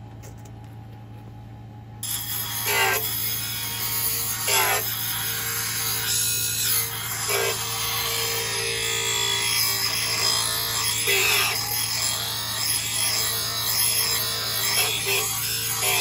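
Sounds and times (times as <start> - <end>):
bench grinder humming: 2.0 - 16.0
blade rasping on grinding wheel: 2.0 - 16.0.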